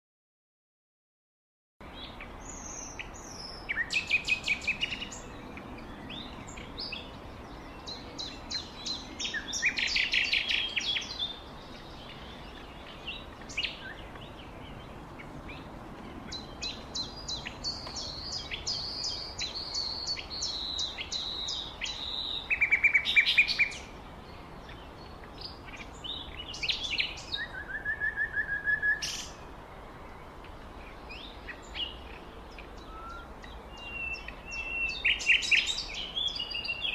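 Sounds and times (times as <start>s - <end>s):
birds trilling chirps: 1.8s - 36.9s
steady background hiss: 1.8s - 36.9s.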